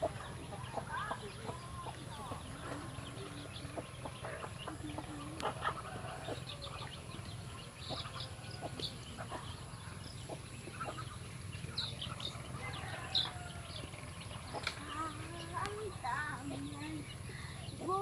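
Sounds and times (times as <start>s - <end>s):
soft duck and chicken calls: 0.0s - 17.1s
birds pecking grain: 0.0s - 18.0s
chicks peeping: 0.0s - 18.0s.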